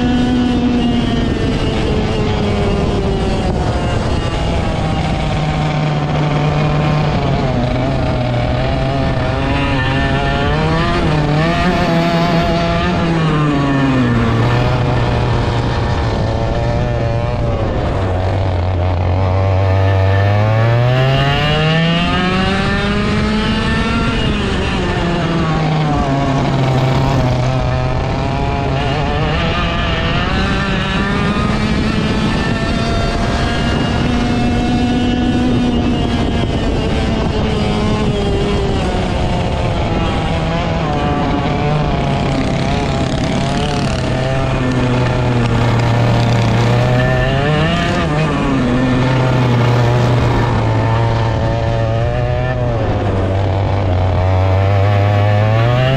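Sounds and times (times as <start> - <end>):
kart engine revving: 0.0 - 55.9.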